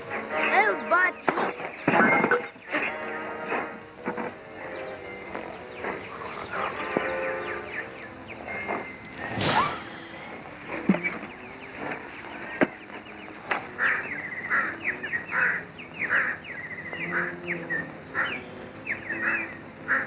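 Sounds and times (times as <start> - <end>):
jungle bird calls on television: 0.0 - 20.0.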